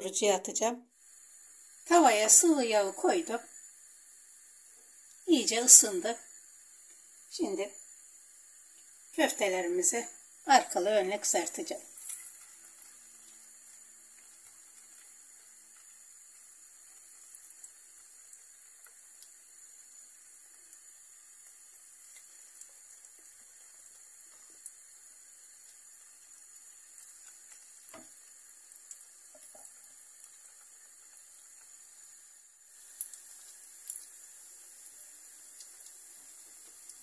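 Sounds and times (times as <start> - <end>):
food deep-frying in oil: 0.0 - 37.0.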